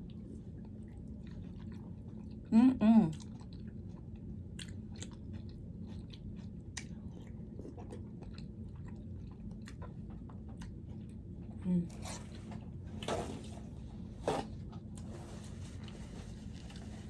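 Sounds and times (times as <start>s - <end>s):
person chewing food: 0.0s - 2.5s, 3.1s - 13.6s, 14.8s - 17.0s
low steady hum: 0.0s - 17.0s.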